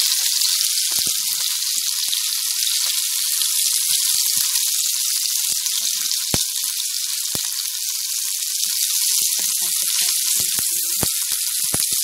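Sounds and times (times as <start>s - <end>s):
food sizzling in hot oil: 0.0s - 12.0s
oil popping and crackling: 0.0s - 12.0s.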